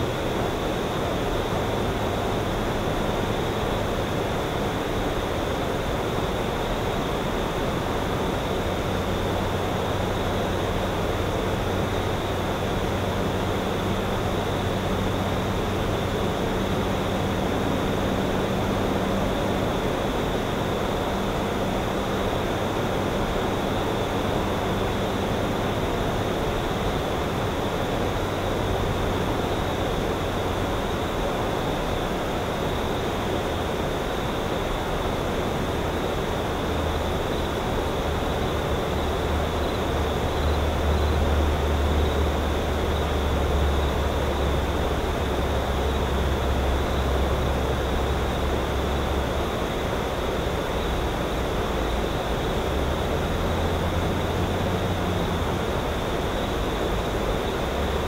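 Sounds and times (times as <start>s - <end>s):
distant engine drone: 0.0s - 58.0s
outdoor hiss: 0.0s - 58.0s.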